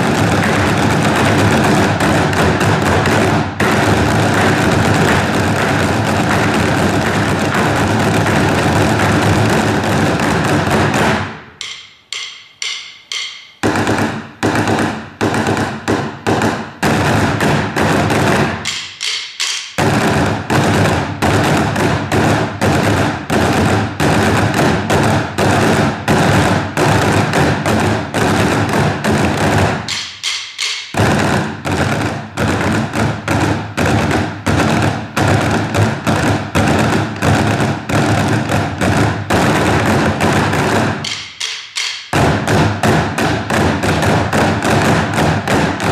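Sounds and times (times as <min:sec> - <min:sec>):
percussion group playing: 0:00.0 - 0:22.7, 0:26.0 - 0:45.9.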